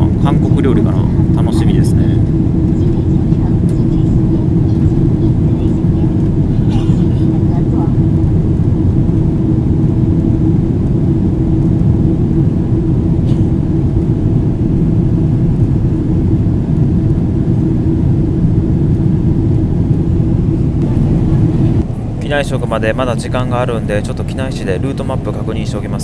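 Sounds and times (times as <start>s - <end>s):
aircraft cabin drone: 0.0s - 26.0s
steady hum: 0.0s - 26.0s.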